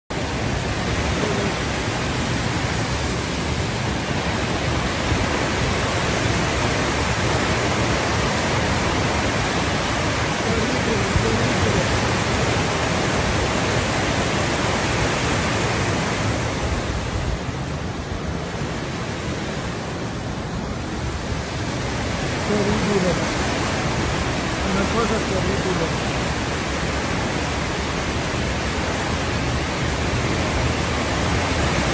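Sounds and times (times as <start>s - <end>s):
floodwater roaring: 0.1s - 31.9s.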